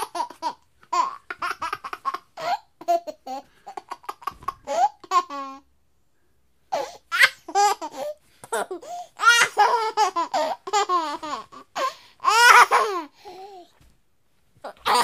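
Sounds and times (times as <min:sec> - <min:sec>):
baby laughing: 0:00.0 - 0:05.7, 0:06.7 - 0:13.2, 0:14.7 - 0:15.0.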